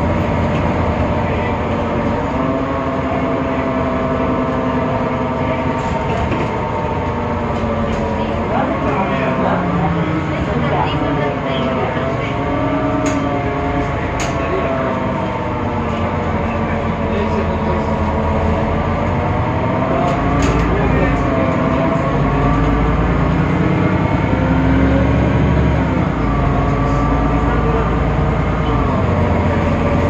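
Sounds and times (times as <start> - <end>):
bus engine and gearbox whine: 0.0 - 30.0.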